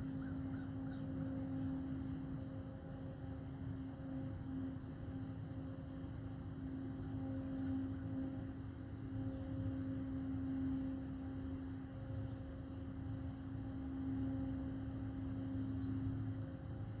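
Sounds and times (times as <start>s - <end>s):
low droning industrial hum: 0.0s - 17.0s.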